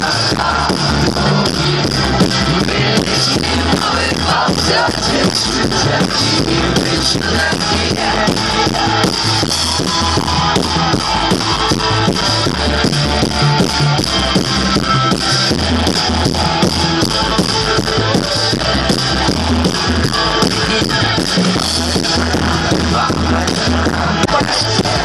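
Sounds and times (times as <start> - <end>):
bass guitar: 0.0 - 25.0
drum beat: 0.0 - 25.0
electric guitar: 0.0 - 25.0.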